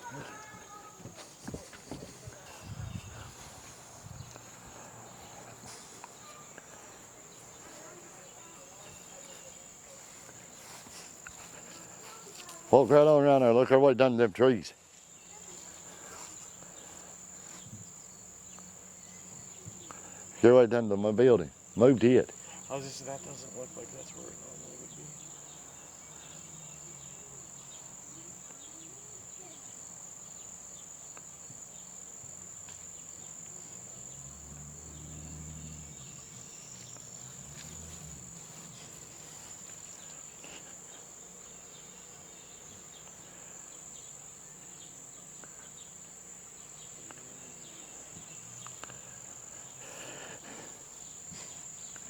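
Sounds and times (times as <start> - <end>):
insects shrill buzzing: 0.0 - 13.0, 14.8 - 20.4, 21.2 - 52.0.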